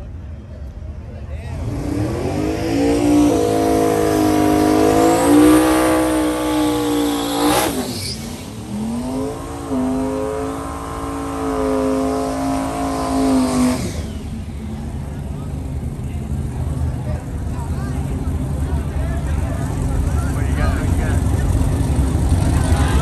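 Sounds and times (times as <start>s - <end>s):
drag racing engine revving: 1.4s - 23.0s.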